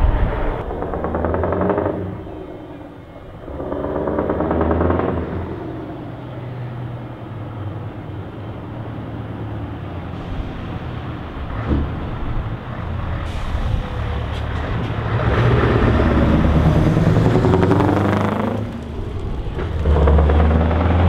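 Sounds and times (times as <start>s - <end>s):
diesel truck engine running: 0.0s - 21.0s.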